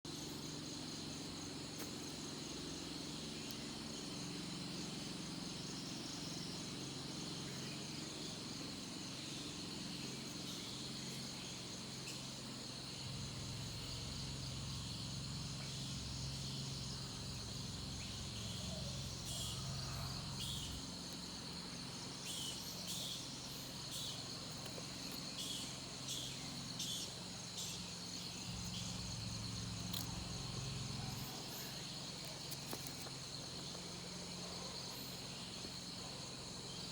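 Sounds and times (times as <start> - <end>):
crickets and insects trilling: 0.1 - 36.9.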